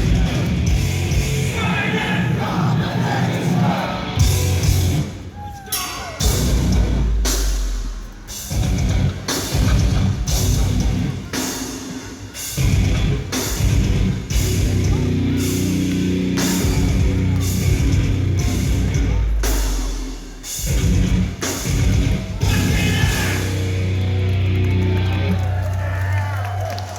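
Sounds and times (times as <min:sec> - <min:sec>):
distorted guitars and bass: 0:00.0 - 0:05.2, 0:06.2 - 0:11.4, 0:12.5 - 0:26.0
vocals: 0:00.0 - 0:15.8, 0:16.4 - 0:24.1.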